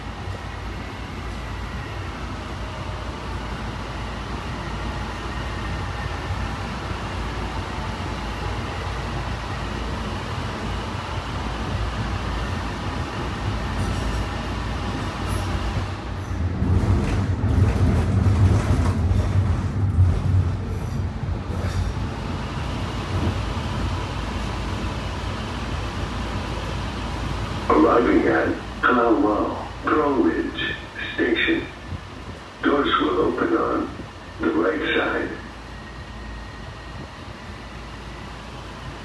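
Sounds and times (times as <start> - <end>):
train rumble with motor tones: 0.0 - 39.0.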